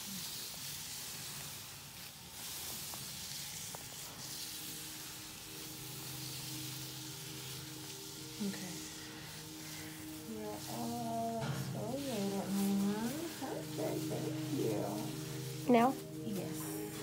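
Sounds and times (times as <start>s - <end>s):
hands rubbing salt scrub on skin: 0.0s - 17.0s
soft sustained music tones: 2.4s - 17.0s.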